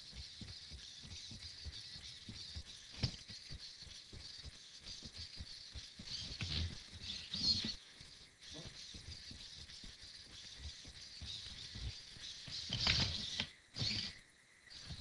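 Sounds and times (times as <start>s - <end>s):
robot legs tapping: 0.0s - 7.8s, 8.4s - 14.2s
steady high hiss: 0.0s - 15.0s.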